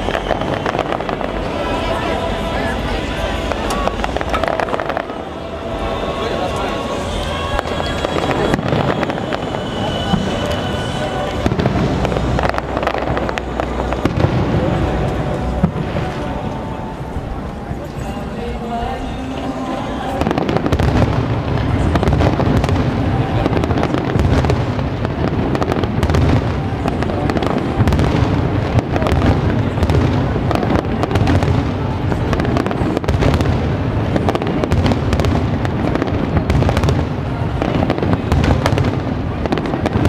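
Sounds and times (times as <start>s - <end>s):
fireworks booming and crackling: 0.0s - 40.0s.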